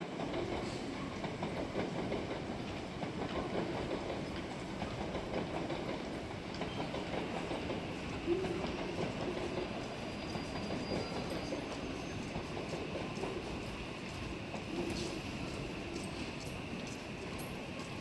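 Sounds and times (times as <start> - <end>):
electric train wheels rolling on rails: 0.1 - 18.0.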